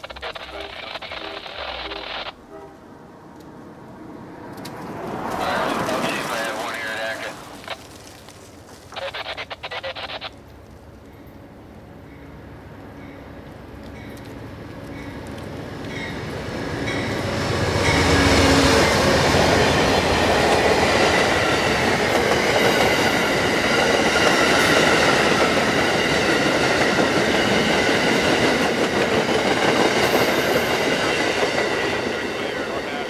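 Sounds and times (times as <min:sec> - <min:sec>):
diesel locomotive passing: 0:00.0 - 0:33.0
train wheels rumbling on rails: 0:04.5 - 0:11.4, 0:12.1 - 0:33.0.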